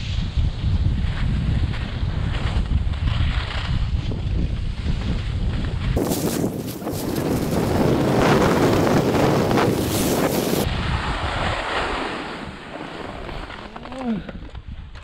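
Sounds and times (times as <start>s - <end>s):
wind buffeting microphone: 0.0s - 15.0s
skis scraping on snow: 0.6s - 14.3s.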